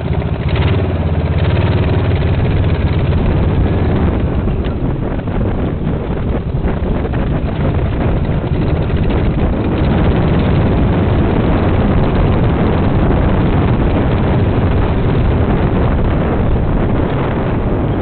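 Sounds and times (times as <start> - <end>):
dune buggy engine: 0.0 - 18.0
wind buffeting microphone: 0.0 - 18.0.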